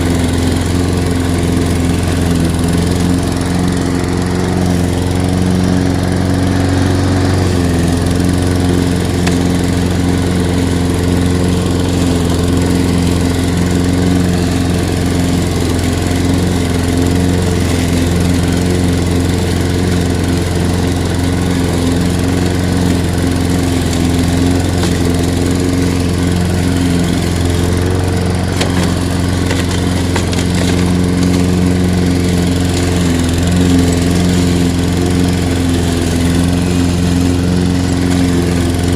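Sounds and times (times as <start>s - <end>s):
lawn mower cutting grass: 0.0s - 38.9s.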